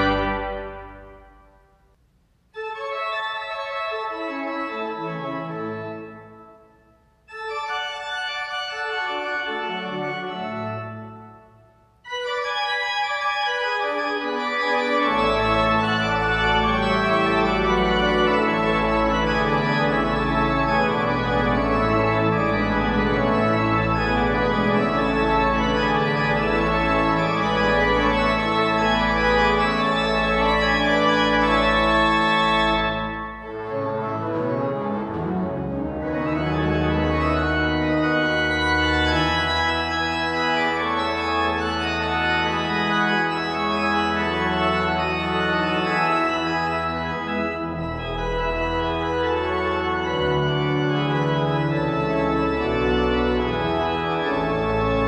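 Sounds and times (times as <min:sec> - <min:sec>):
church organ playing: 0:00.0 - 0:01.9, 0:02.6 - 0:55.0
deep organ pedal notes: 0:00.0 - 0:01.9, 0:02.6 - 0:55.0.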